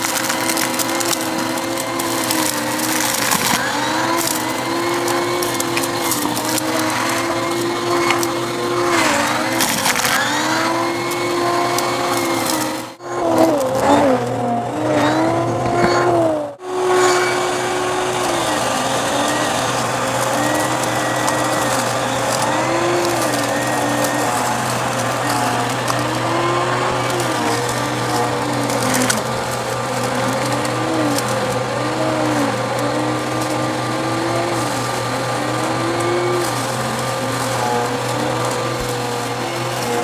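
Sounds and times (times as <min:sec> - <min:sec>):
debris crackling in vacuum: 0:00.0 - 0:40.0
vacuum cleaner running: 0:00.0 - 0:40.0.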